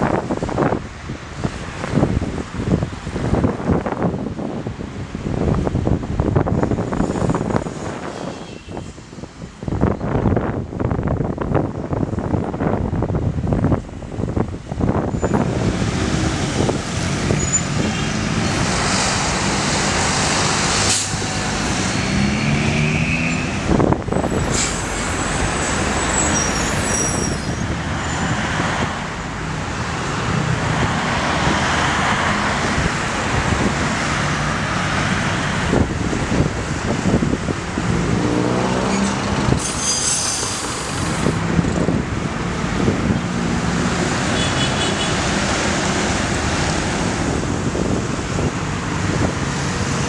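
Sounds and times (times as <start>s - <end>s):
heavy road traffic: 0.0s - 50.0s.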